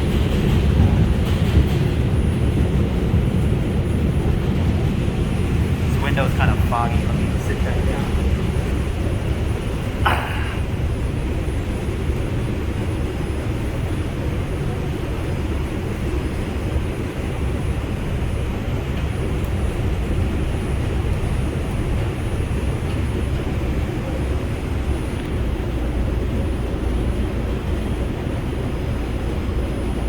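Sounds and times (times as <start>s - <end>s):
subway car wheels rumbling on rail: 0.0s - 30.0s.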